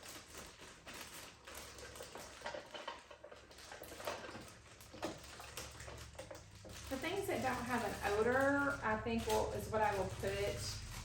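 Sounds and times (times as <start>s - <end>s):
plastic containers clicking and knocking: 0.8s - 10.3s.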